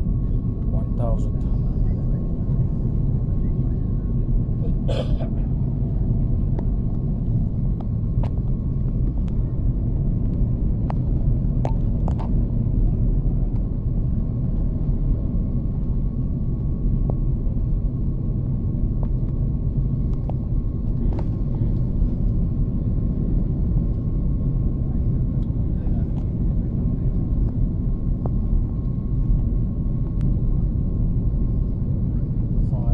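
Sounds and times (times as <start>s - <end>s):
aircraft engine rumble in cabin: 0.0s - 32.9s
faint steady whine: 0.0s - 32.9s.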